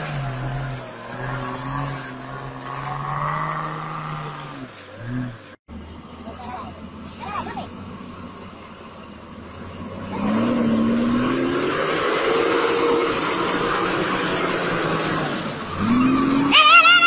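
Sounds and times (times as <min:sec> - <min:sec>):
diesel truck engine revving: 0:00.0 - 0:17.0.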